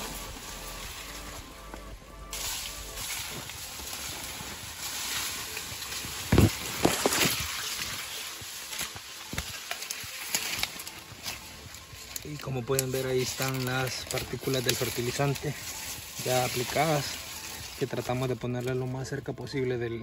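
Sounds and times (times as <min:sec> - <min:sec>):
leaves brushing microphone: 0:00.0 - 0:18.9
leaves rustling and scraping: 0:00.0 - 0:20.0.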